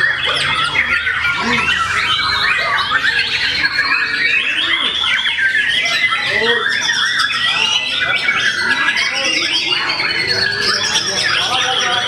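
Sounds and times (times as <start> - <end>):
other songbirds singing: 0.0 - 12.0
songbird whistling and chattering: 0.0 - 12.0.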